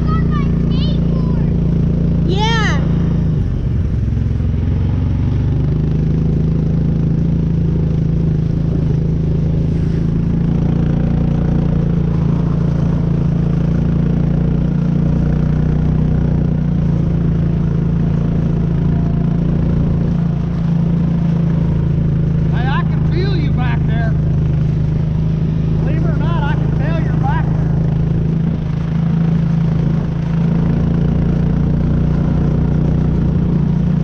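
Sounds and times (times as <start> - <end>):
atv engine droning: 0.0 - 34.0.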